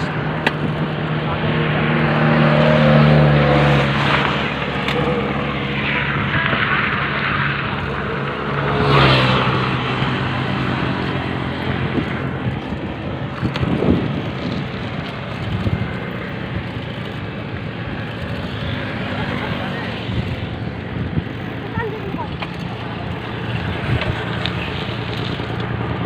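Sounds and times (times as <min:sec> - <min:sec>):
motor vehicle traffic: 0:00.0 - 0:26.0
vehicle passing loudly: 0:00.0 - 0:26.0
wind noise: 0:00.0 - 0:26.0.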